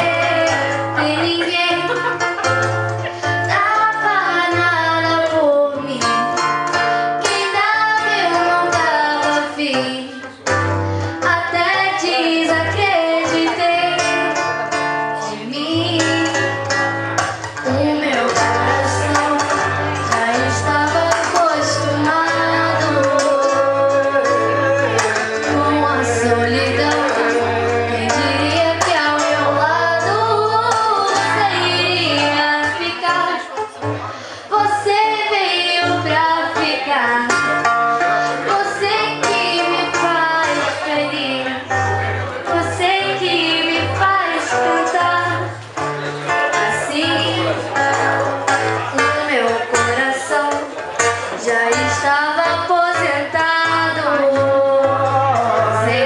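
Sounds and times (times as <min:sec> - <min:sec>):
woman singing: 0:00.0 - 0:02.2, 0:03.2 - 0:10.4, 0:11.1 - 0:14.6, 0:15.2 - 0:16.8, 0:17.5 - 0:33.6, 0:34.4 - 0:41.7, 0:42.4 - 0:45.6, 0:46.7 - 0:48.1, 0:48.9 - 0:50.7, 0:51.3 - 0:56.0
acoustic guitar: 0:00.0 - 0:56.0.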